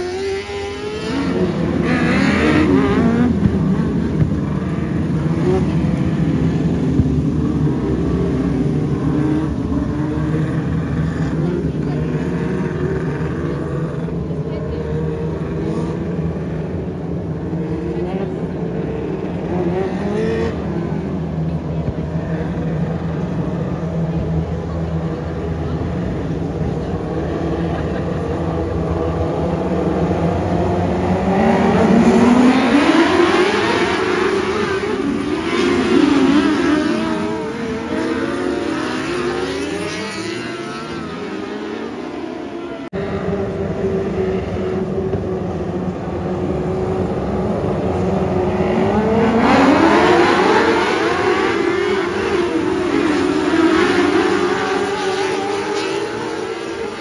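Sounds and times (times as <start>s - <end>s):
racing motorcycle engines revving: 0.0s - 57.0s.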